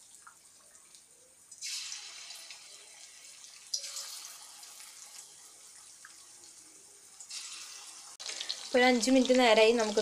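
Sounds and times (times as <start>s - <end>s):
chicken deep-frying in oil: 0.0s - 10.0s
sharp oil crackle: 0.0s - 10.0s.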